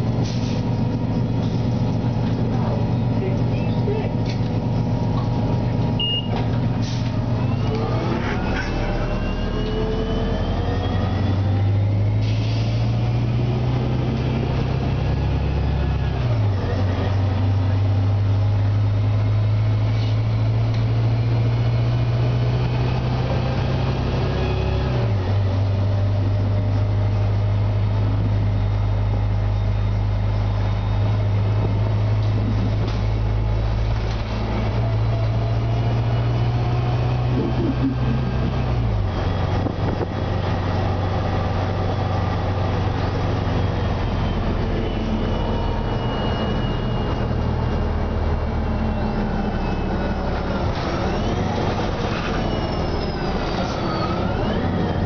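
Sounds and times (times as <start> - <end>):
bus engine accelerating with whine: 0.0 - 55.0.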